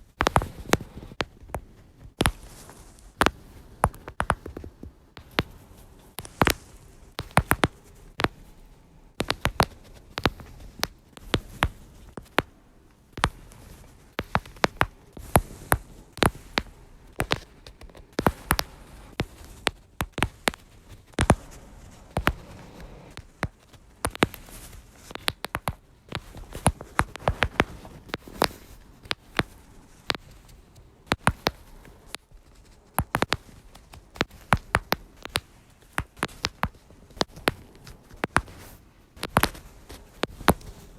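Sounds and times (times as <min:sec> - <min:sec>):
lower-back joints cracking: 0:00.0 - 0:40.9.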